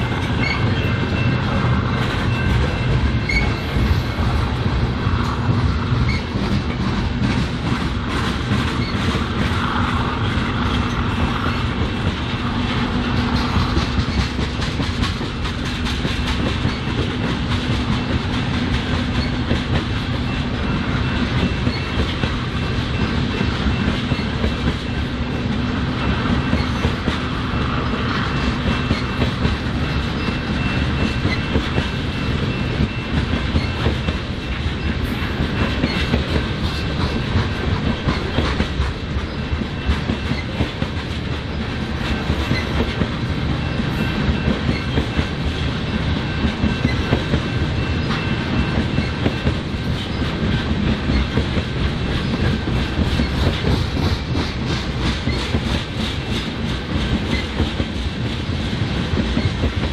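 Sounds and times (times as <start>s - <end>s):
freight train wheels clicking: 0.0s - 59.9s
train rumble: 0.0s - 59.9s.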